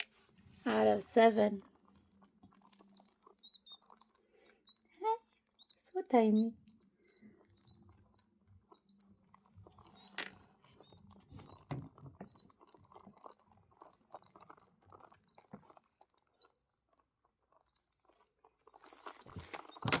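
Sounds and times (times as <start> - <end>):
faint rustling and scratching: 0.0 - 20.0
quail chick peeping: 0.7 - 20.0.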